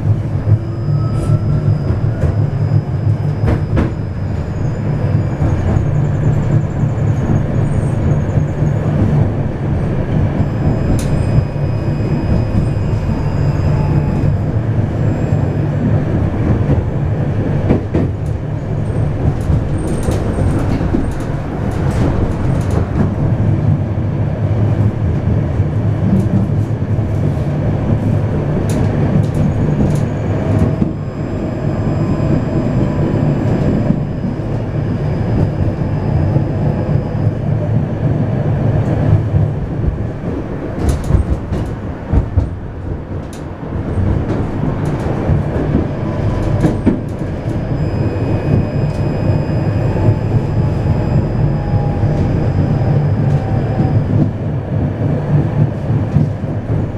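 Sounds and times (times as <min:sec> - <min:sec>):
tram running rumble: 0:00.0 - 0:56.9.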